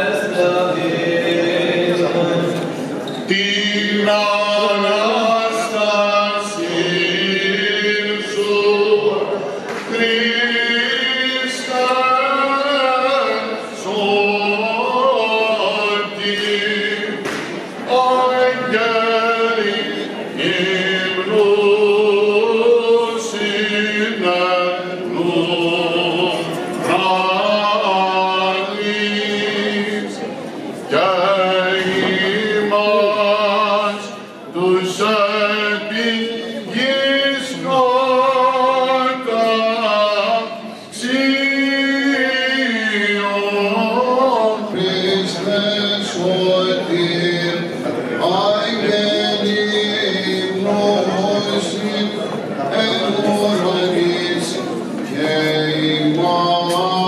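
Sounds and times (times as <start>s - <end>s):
man chanting into microphone: 0.0s - 17.2s, 17.8s - 57.0s.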